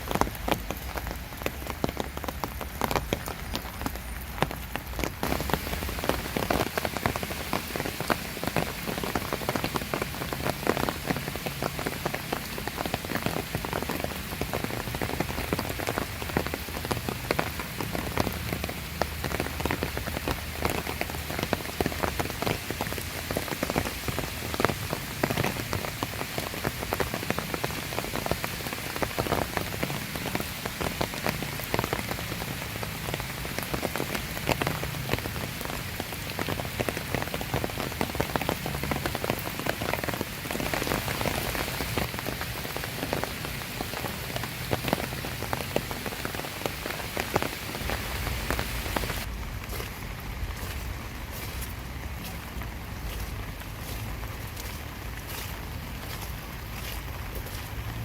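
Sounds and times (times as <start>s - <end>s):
raindrops ticking: 0.0s - 58.0s
steady rain hiss: 0.0s - 58.0s.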